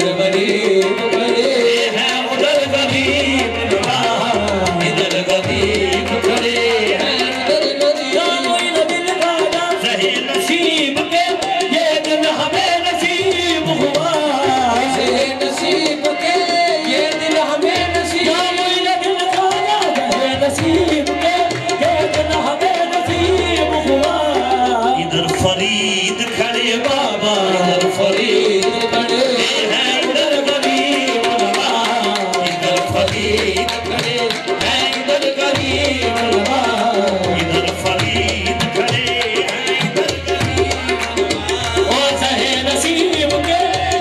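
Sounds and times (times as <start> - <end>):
group singing: 0.0 - 44.0
harmonium: 0.0 - 44.0
tabla drumming: 0.0 - 44.0.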